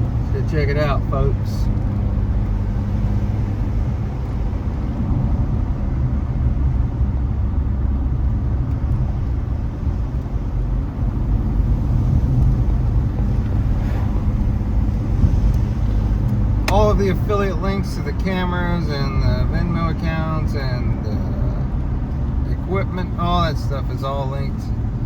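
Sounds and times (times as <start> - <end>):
car engine hum: 0.0 - 25.0
road noise: 0.0 - 25.0.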